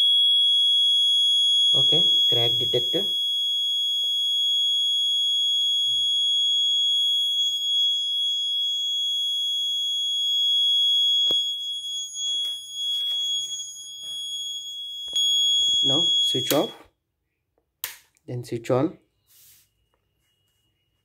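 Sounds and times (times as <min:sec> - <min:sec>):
buzzer alarm steady high tone: 0:00.0 - 0:16.9.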